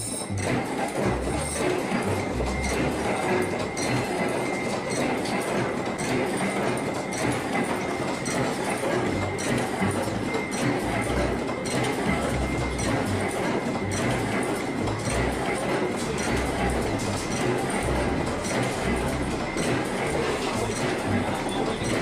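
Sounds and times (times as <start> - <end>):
factory machinery clattering: 0.0 - 22.0.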